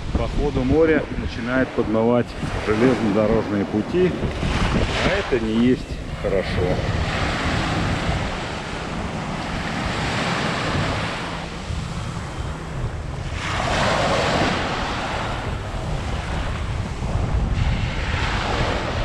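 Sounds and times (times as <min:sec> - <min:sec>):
small waves breaking on sand: 0:00.0 - 0:19.0
wind buffeting microphone: 0:00.0 - 0:19.0.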